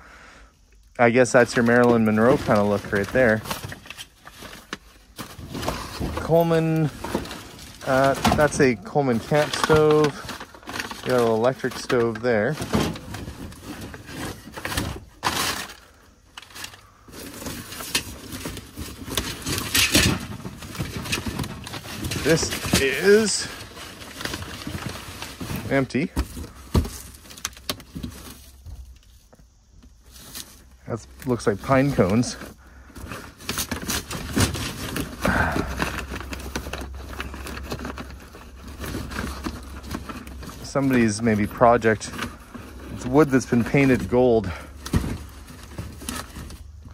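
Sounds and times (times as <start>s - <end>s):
crinkly burst: 0.7s - 29.2s, 30.0s - 46.9s
cardboard boxes rustling: 1.1s - 46.9s.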